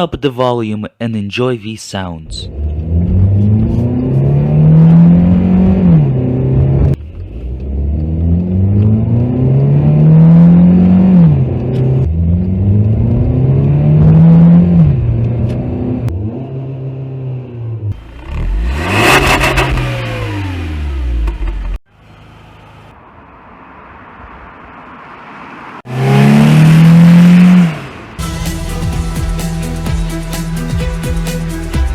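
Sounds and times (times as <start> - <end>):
car engine revving: 2.2 - 31.9.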